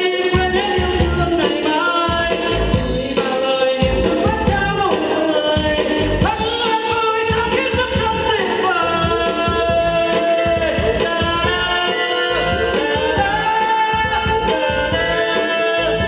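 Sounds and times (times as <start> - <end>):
backing track with steady beat: 0.0 - 16.0
man singing into microphone: 0.0 - 16.0.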